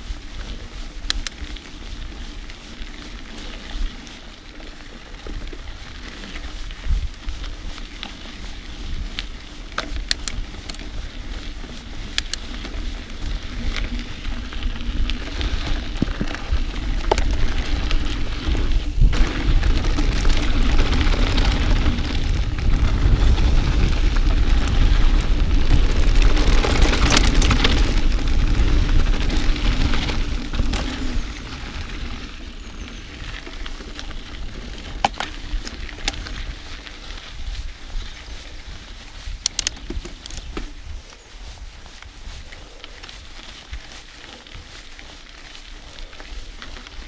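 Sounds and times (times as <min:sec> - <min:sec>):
bike clicks and rattles: 0:00.0 - 0:47.0
tyres rolling on dirt trail: 0:00.0 - 0:47.0
wind buffeting microphone: 0:05.2 - 0:47.0.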